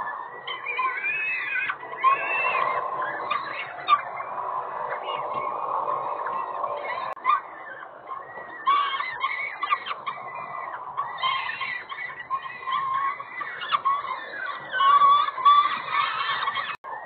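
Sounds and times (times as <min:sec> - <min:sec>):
chicks begging calls: 0:00.0 - 0:17.0.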